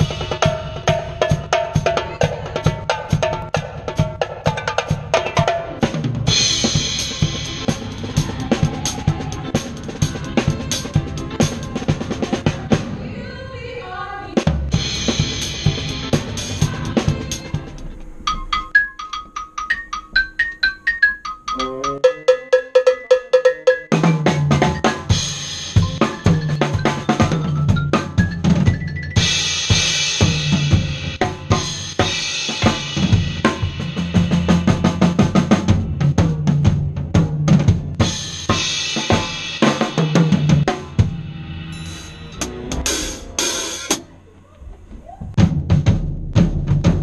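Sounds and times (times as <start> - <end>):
drum kit groove: 0.0 - 13.1, 14.4 - 44.2, 45.2 - 47.0
pit band playing: 0.0 - 13.5, 14.4 - 47.0.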